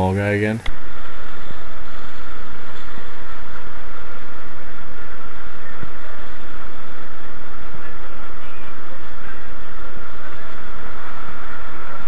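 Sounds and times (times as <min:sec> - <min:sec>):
boat engine drone: 0:00.0 - 0:12.0
wind: 0:00.0 - 0:12.0.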